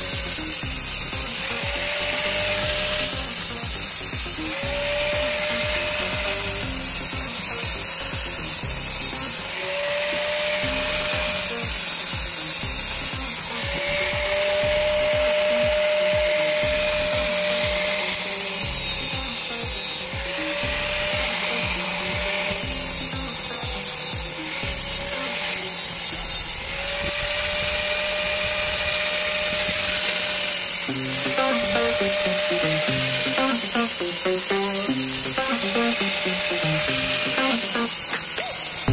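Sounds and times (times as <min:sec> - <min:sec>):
power tool grinding: 0:00.0 - 0:38.9.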